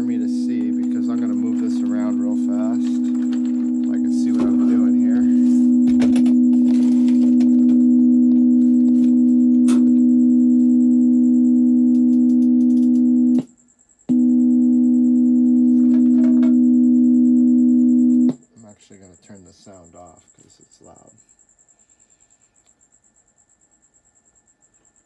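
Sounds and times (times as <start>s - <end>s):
sine-wave test tones: 0.0s - 25.0s.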